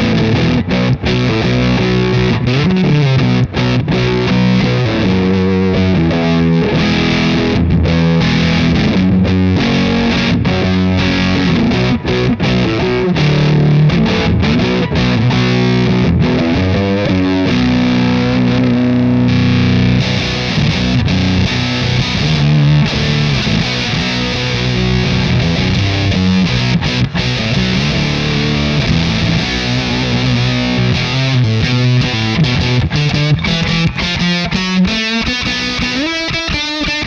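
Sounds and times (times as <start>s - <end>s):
fuzz electric guitar: 0.0s - 37.0s.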